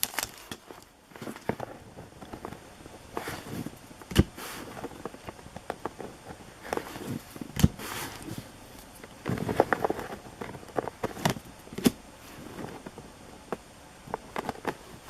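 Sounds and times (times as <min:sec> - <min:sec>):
cards and wrappers rustling: 0:00.0 - 0:15.0.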